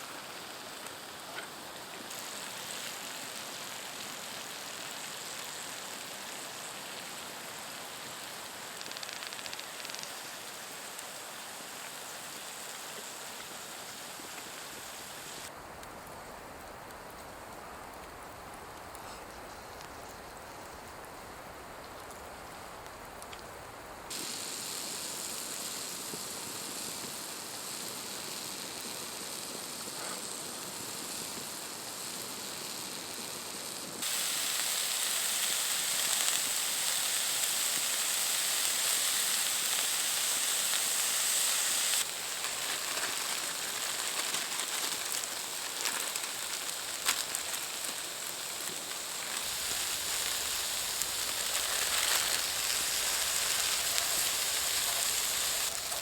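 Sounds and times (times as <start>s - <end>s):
rain-like hiss: 0.0s - 56.0s.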